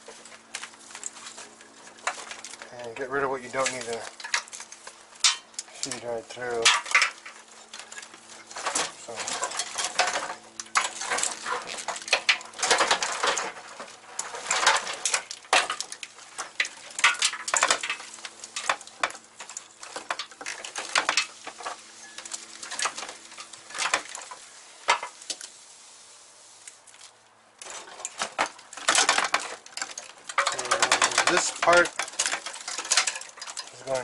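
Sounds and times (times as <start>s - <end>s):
wiring harness clicking and rustling: 0.0s - 25.5s, 26.7s - 34.0s.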